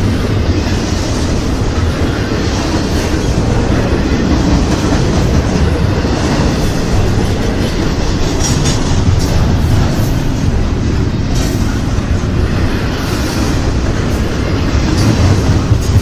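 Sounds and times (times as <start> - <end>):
freight train cars rumbling past: 0.0 - 16.0.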